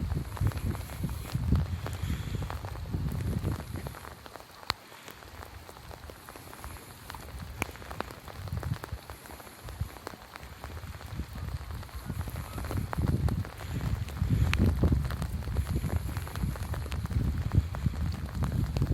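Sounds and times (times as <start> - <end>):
rain falling: 0.0 - 18.9
raindrops ticking: 0.0 - 18.9.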